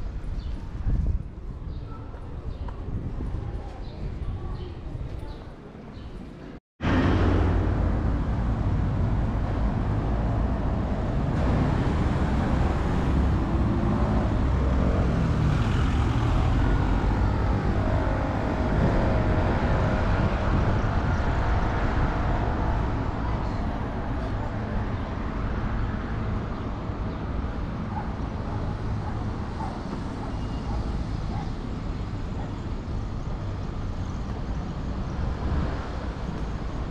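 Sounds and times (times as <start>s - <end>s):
cars driving past: 6.8s - 36.9s.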